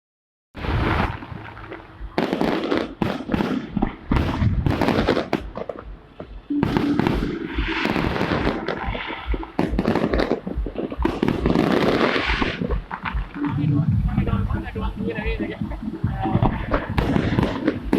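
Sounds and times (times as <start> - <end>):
fireworks bangs and crackling: 0.6 - 14.4, 15.3 - 17.9
deep firework thumps: 0.6 - 17.9.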